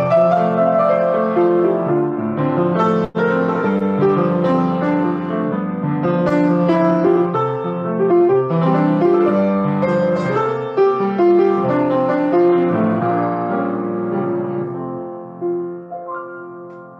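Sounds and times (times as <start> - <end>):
grand piano playing: 0.0 - 16.9.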